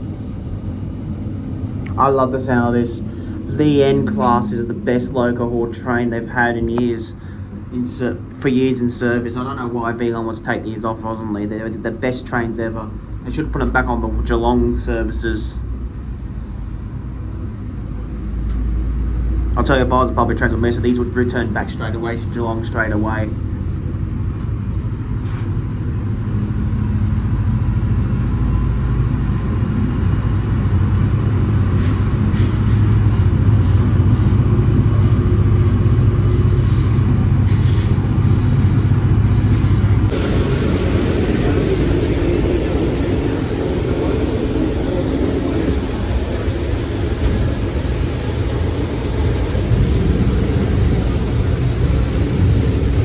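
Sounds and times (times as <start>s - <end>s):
low diesel rumble: 0.0s - 53.0s
wheel and rail noise: 0.0s - 53.0s.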